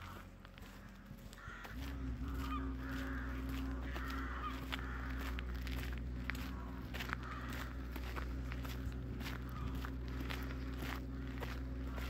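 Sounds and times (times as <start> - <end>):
footsteps walking: 0.0 - 12.0
steady low hum: 0.0 - 12.0.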